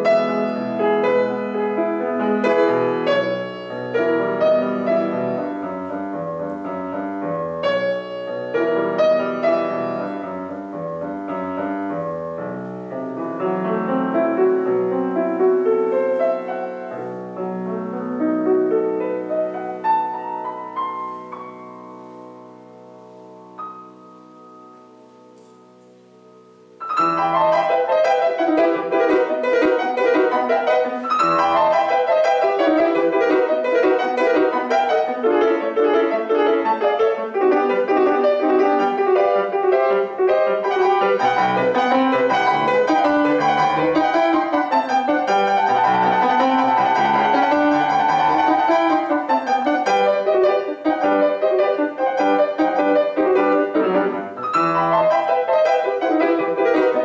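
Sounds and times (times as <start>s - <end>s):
grand piano playing classical piece: 0.0s - 57.0s.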